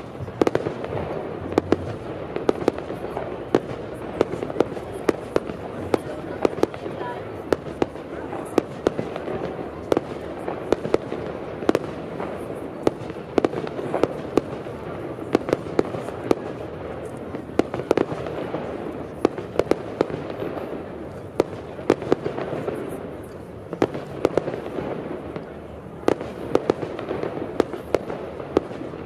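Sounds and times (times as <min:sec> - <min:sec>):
fireworks banging: 0:00.0 - 0:29.0.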